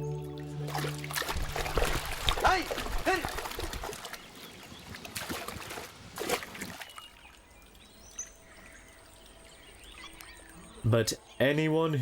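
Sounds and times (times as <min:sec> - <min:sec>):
water splashing and pouring: 0:00.4 - 0:10.1.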